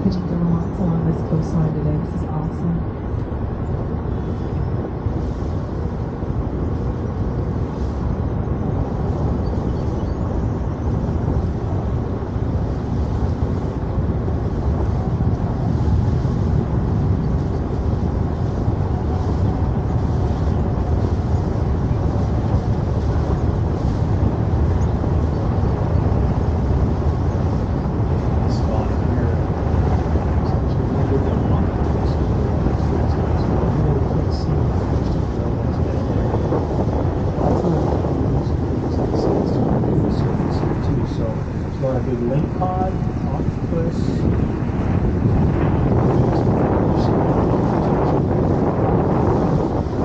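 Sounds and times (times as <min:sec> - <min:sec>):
boat engine low rumble: 0:00.0 - 0:50.0.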